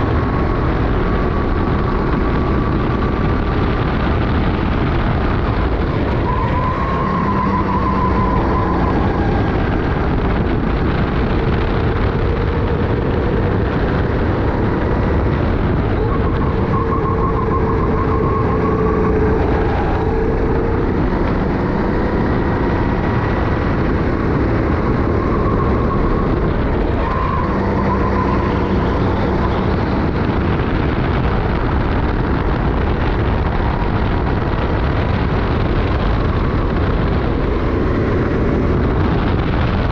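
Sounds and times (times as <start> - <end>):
racing kart engine: 0.0 - 39.9
wind and road noise: 0.0 - 39.9.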